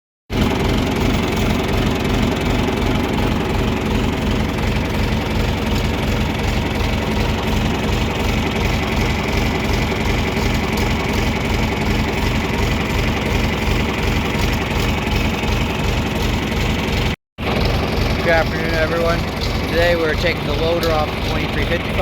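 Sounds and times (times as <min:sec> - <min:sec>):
tractor engine idling: 0:00.3 - 0:22.0.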